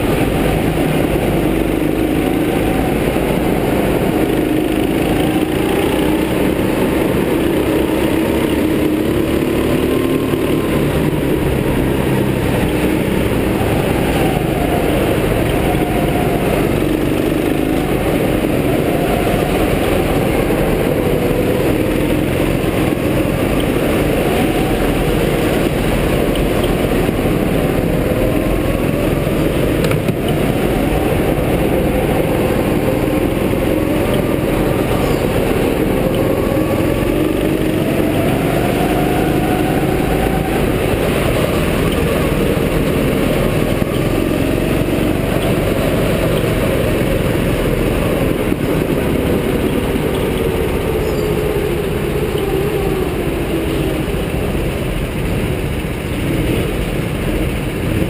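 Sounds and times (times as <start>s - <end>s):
go-kart engine revving: 0.0s - 58.0s
rushing noise: 0.0s - 58.0s.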